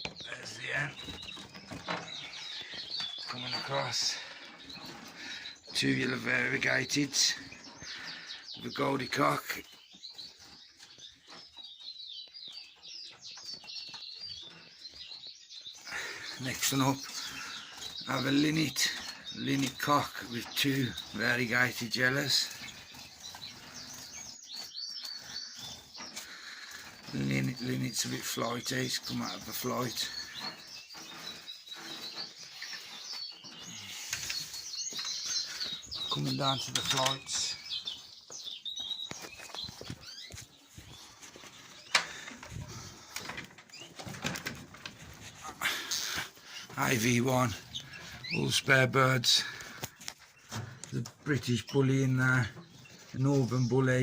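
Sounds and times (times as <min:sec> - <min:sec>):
cage birds chirping: 0:00.0 - 0:54.0.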